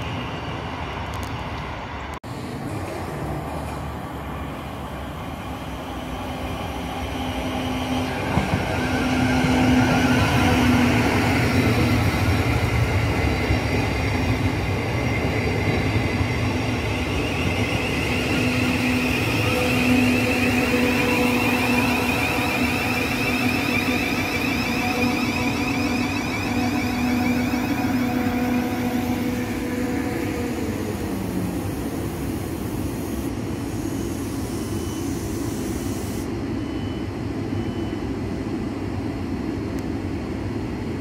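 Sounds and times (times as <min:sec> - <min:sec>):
electric train whine: 0:00.0 - 0:41.0.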